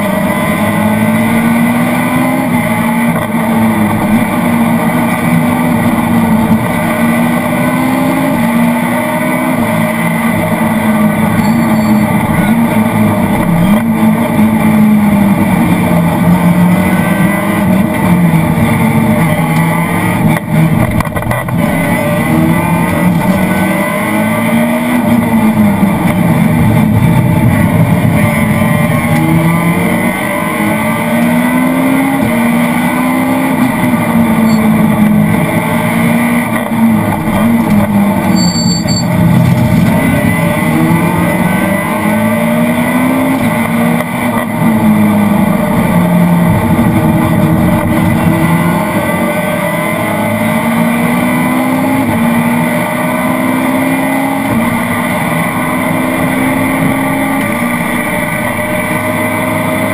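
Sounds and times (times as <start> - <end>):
rally car engine revving: 0.0 - 59.9
road noise: 0.0 - 59.9.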